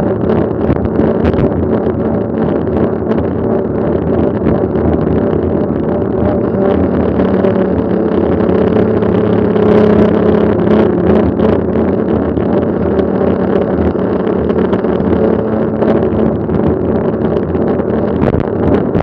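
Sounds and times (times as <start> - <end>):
bike tyre noise: 0.0 - 19.0
low even hum: 0.0 - 19.0
wind rush: 0.0 - 19.0.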